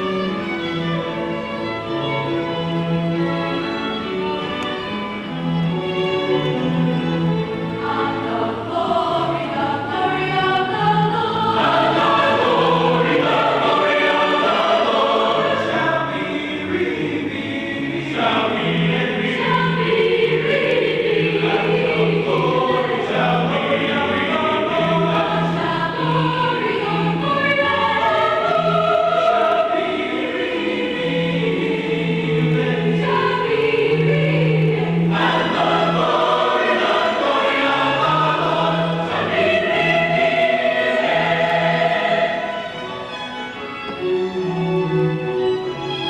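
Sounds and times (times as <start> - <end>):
choir singing with accompaniment: 0.0 - 46.0.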